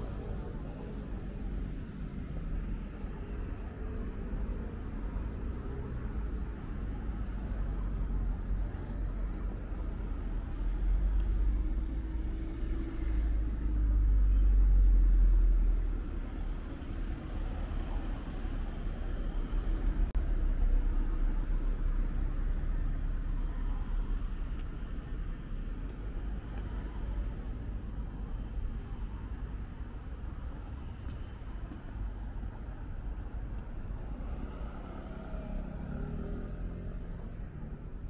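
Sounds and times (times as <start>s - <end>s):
cars passing with low rumble: 0.0s - 38.0s.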